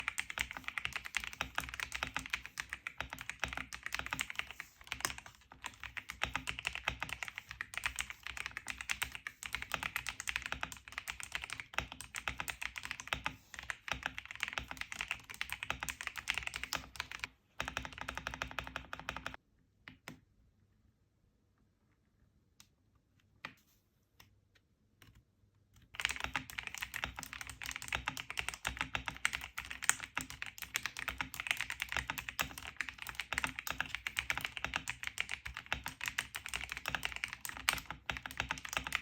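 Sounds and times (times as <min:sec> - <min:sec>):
mechanical keyboard typing: 0:00.0 - 0:19.4, 0:25.9 - 0:39.0.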